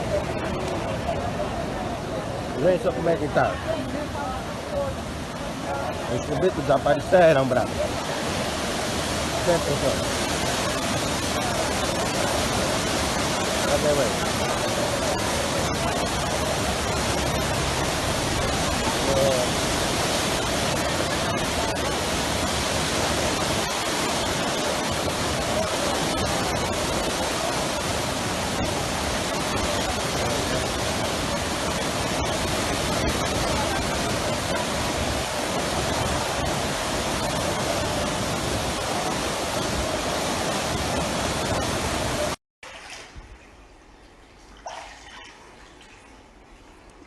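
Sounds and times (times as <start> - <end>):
floodwater rushing: 0.0 - 47.0.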